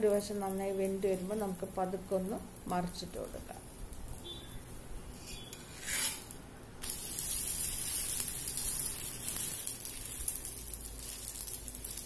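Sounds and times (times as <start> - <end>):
flatbread sizzling in oil: 0.0 - 12.0.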